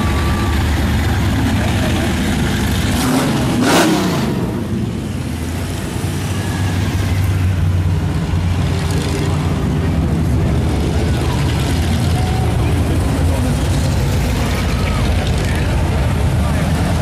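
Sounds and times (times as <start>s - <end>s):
car engines passing: 0.0s - 17.0s.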